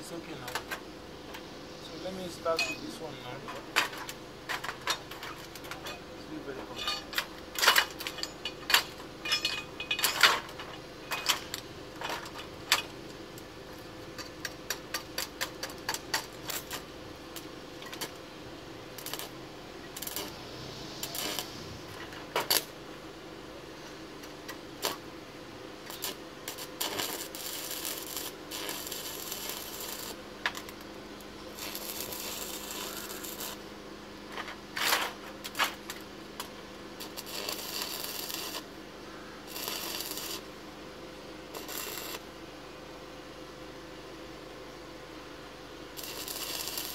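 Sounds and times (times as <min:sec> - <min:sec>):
welding arc crackling: 0:00.0 - 0:23.1, 0:24.1 - 0:38.8, 0:39.4 - 0:40.6, 0:41.5 - 0:42.4, 0:45.9 - 0:46.9.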